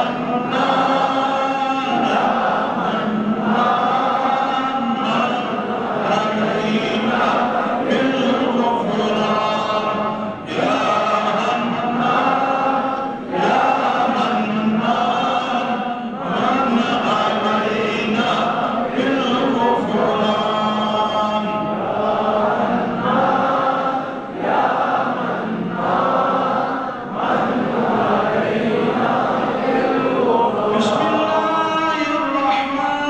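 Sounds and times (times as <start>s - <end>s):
men chanting together: 0.0s - 32.8s.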